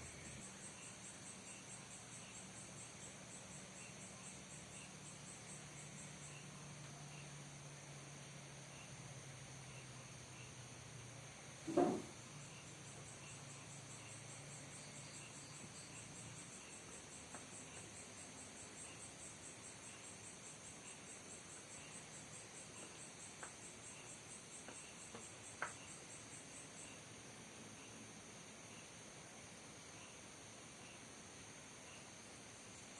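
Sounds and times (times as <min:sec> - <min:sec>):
insects chirping: 0:00.0 - 0:32.9.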